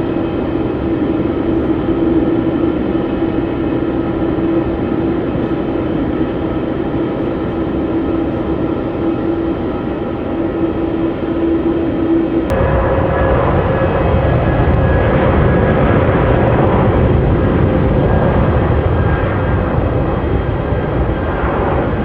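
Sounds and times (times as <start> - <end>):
jet engines droning: 0.0 - 22.0.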